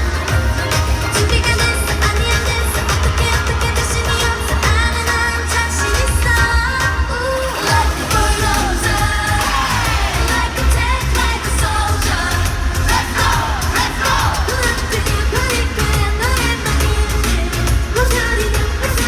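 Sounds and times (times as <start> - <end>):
amplified pop music with heavy bass: 0.0 - 19.0
female group vocals singing: 0.0 - 19.0.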